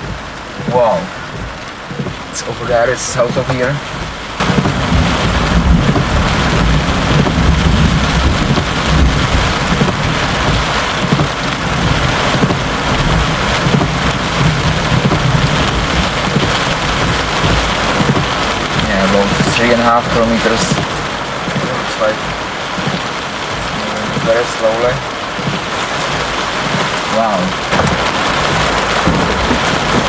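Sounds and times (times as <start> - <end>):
heavy rain falling: 0.0 - 30.0
rolling thunder rumble: 0.0 - 30.0.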